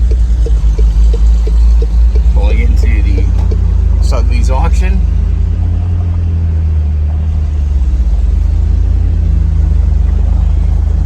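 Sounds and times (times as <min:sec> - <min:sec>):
engine drone: 0:00.0 - 0:11.0
road noise: 0:00.0 - 0:11.0.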